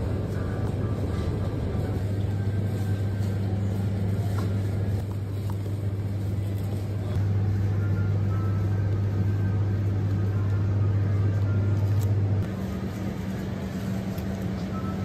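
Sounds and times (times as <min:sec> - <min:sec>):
refrigerated display cases humming: 0:00.0 - 0:15.0.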